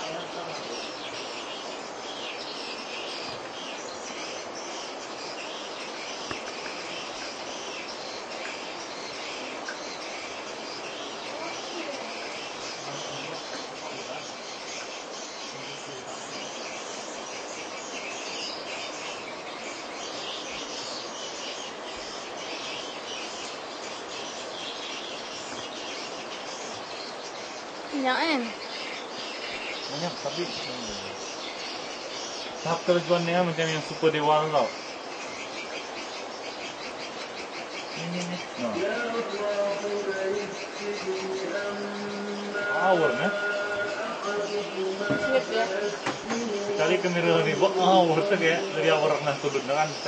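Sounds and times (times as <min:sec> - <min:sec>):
steady hiss: 0:00.0 - 0:50.0.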